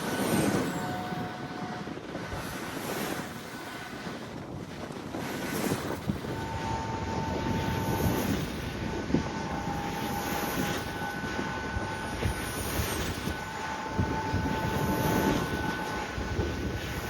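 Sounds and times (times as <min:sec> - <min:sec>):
steady whine: 0:00.0 - 0:17.0
wind noise on microphone: 0:00.0 - 0:17.0
wind turbine blades whooshing: 0:00.0 - 0:17.0.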